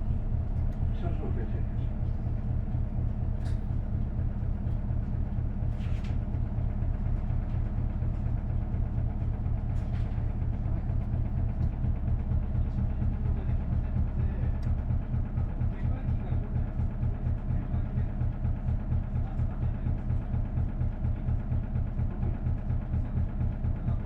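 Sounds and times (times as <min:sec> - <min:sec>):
bus diesel engine drone: 0:00.0 - 0:20.4.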